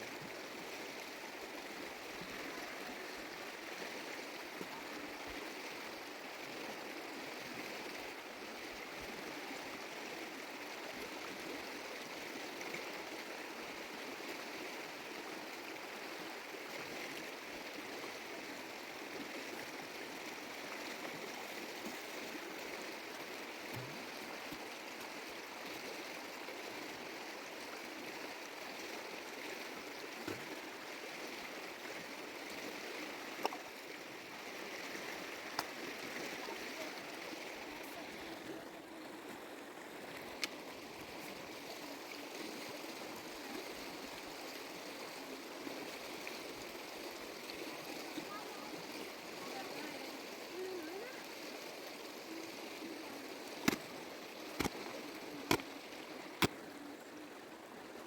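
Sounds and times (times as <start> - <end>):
mountain stream flowing: 0.0 - 58.0.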